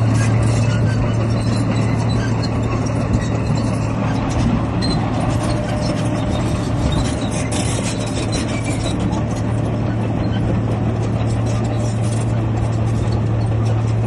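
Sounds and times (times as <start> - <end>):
diesel machinery engine drone: 0.0 - 14.0
machinery rumbling and rattling: 0.0 - 14.0.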